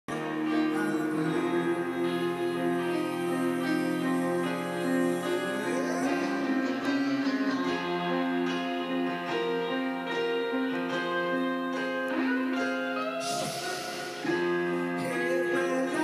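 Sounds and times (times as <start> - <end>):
guitar ringing notes: 0.1 - 16.0.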